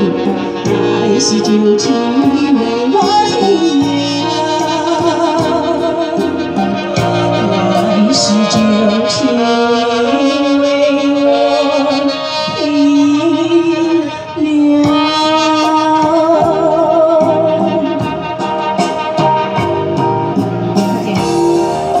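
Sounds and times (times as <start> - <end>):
woman singing ballad through speakers: 0.0 - 19.0, 20.8 - 22.0
electronic keyboard accompaniment: 0.0 - 22.0.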